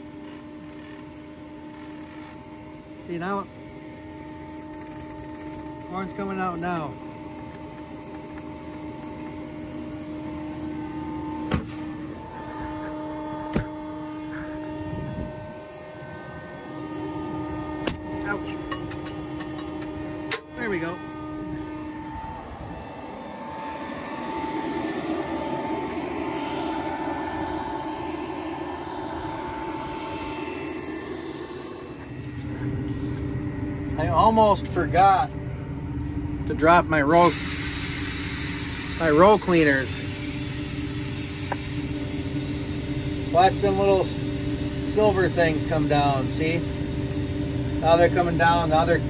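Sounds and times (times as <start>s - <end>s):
tractor machinery humming: 0.0s - 49.0s
vacuum fan high whine: 0.0s - 49.0s.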